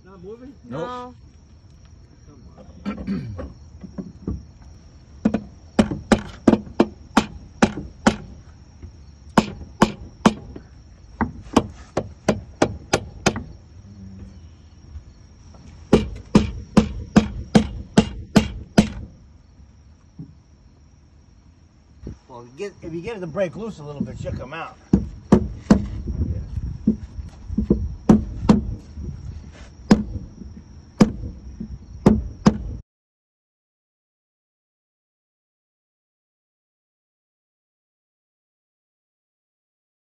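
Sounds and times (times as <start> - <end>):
insect chirring: 0.0 - 32.8.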